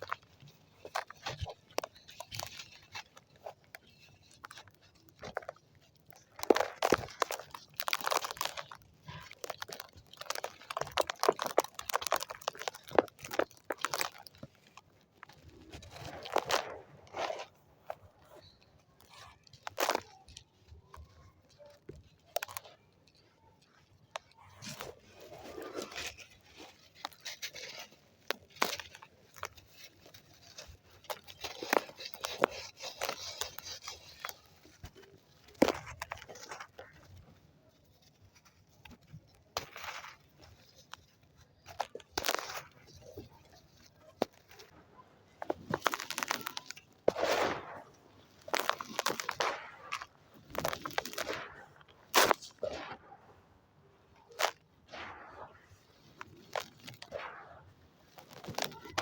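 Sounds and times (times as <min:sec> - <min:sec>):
sand crumbling and crunching: 0:00.0 - 0:59.0.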